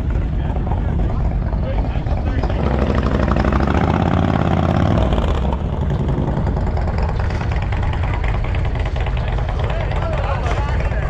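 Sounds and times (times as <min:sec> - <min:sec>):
motorcycle engines running: 0:00.0 - 0:11.0.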